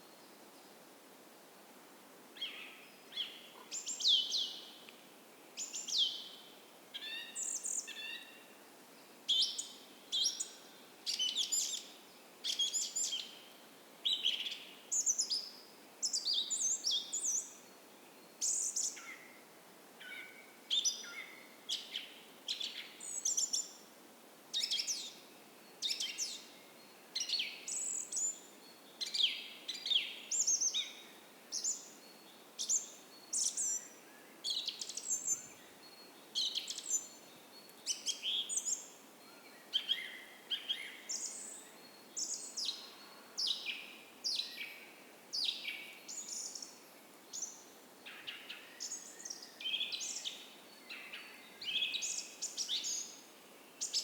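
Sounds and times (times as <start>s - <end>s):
faint steady hiss: 0.0s - 54.0s
songbirds chirping: 0.0s - 54.0s.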